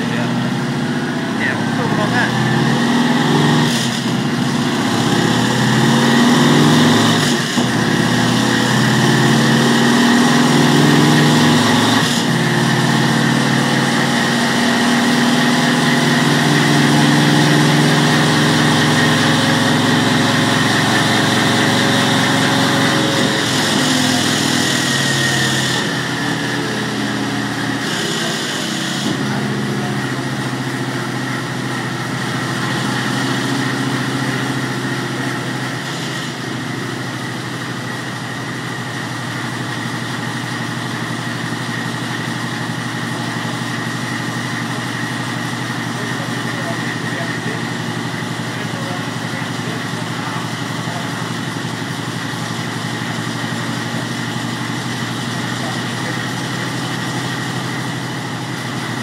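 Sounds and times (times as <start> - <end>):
motorcycle engine on a dyno: 0.0 - 59.0.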